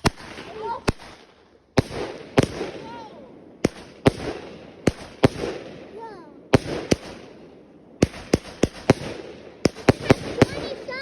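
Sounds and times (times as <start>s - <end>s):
firework bangs: 0.0s - 11.0s.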